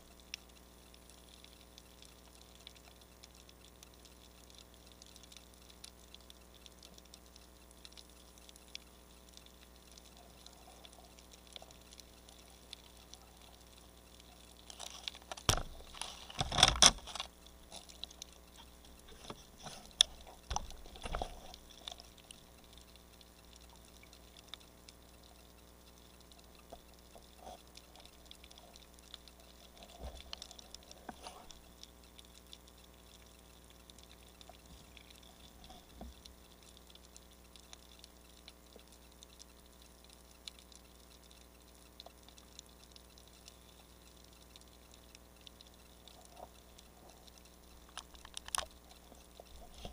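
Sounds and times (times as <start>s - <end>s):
faint ticks: 0.0s - 49.9s
low underwater hiss: 0.0s - 49.9s
water bubbling and gurgling: 0.0s - 49.9s.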